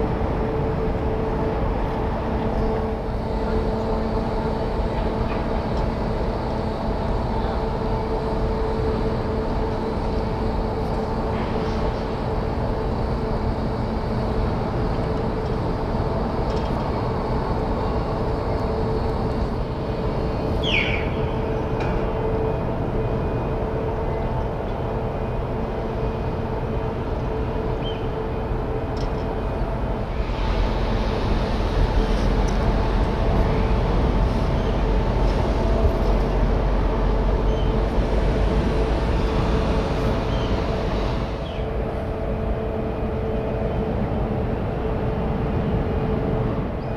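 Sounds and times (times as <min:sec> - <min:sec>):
ship machinery rumbling: 0:00.0 - 0:46.9.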